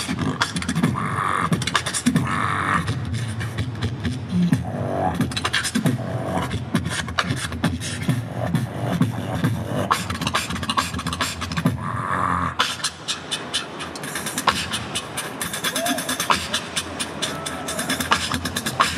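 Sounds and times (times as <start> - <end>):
beatboxing through a pa: 0.0 - 18.9.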